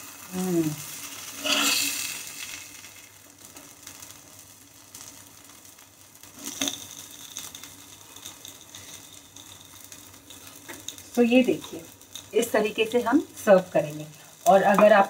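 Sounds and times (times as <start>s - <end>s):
paneer frying on a pan: 0.0s - 15.0s.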